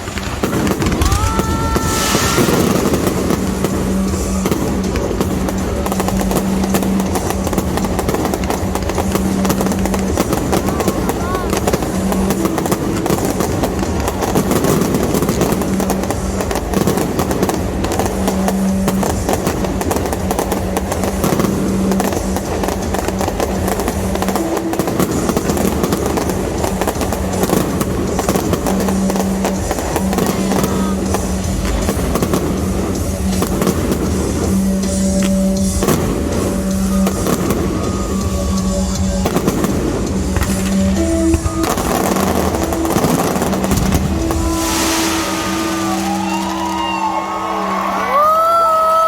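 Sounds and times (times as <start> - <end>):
fireworks bursting and crackling: 0.0 - 49.0
music playing: 0.0 - 49.0.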